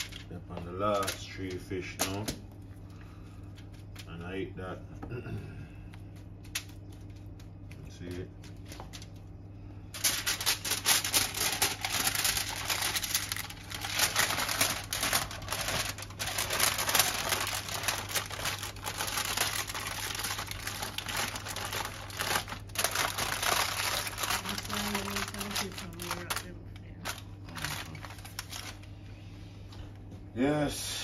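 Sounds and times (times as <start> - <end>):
aluminium foil crinkling: 0.0 - 4.4, 5.9 - 28.9.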